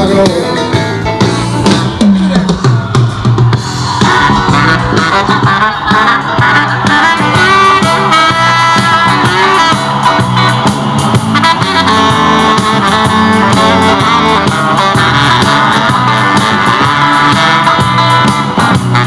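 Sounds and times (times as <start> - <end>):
blues-rock music over speakers: 0.0 - 19.0.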